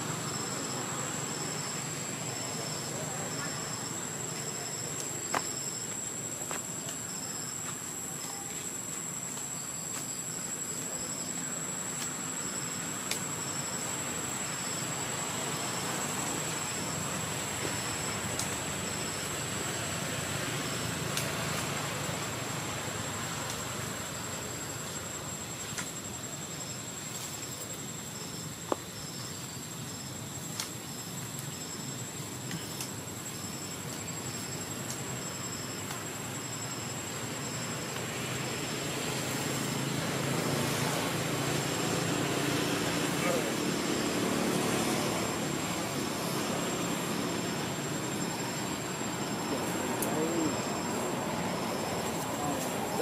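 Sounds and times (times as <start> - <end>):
even hiss: 0.0 - 53.0
high insect drone: 0.0 - 53.0.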